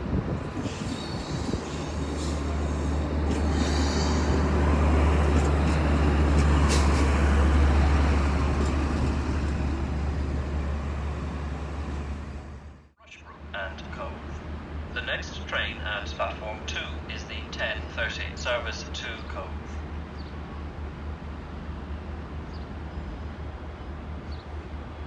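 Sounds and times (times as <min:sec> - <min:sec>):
diesel train engine drone: 0:00.0 - 0:25.0
train rolling noise: 0:00.0 - 0:25.0.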